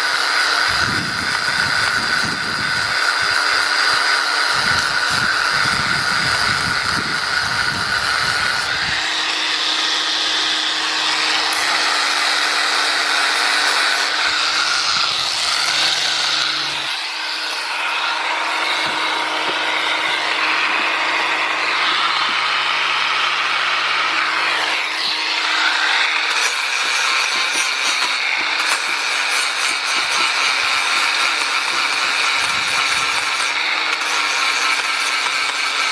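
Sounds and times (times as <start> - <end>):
power tool motor humming: 0.0 - 35.9.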